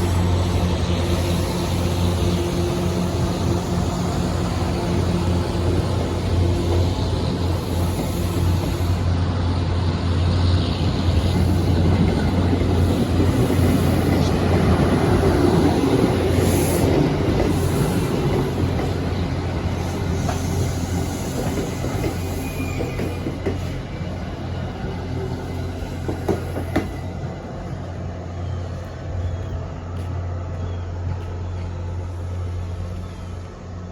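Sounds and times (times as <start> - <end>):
train rolling past: 0.0 - 33.9.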